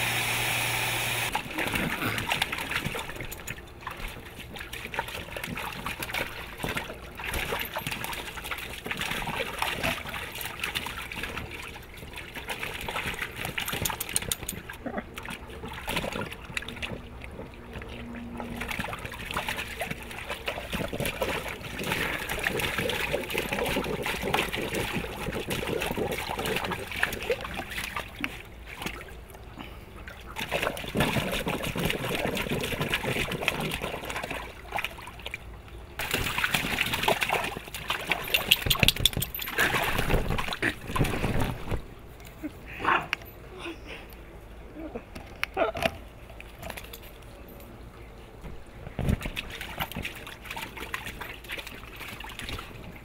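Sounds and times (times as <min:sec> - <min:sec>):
dog splashing in water: 0:01.3 - 0:29.2, 0:30.1 - 0:35.4, 0:36.0 - 0:41.8, 0:49.0 - 0:53.0.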